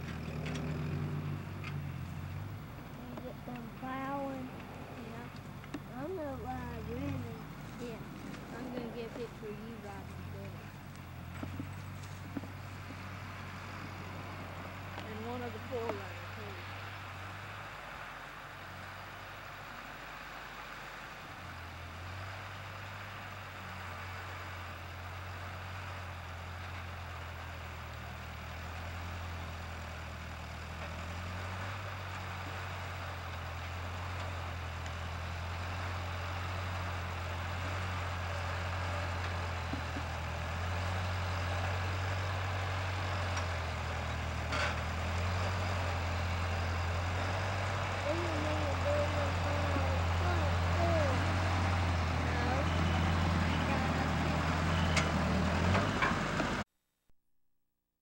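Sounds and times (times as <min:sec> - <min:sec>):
tractor engine running: 0:00.0 - 0:56.6.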